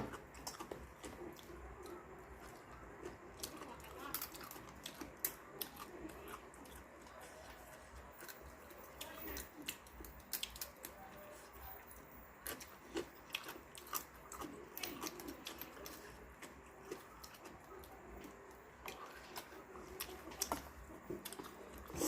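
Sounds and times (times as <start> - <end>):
person chewing and crunching: 0.0 - 22.0.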